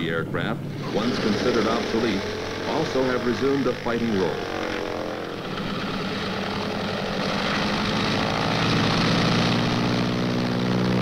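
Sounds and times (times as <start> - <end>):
propeller aircraft engine running: 0.0 - 11.0.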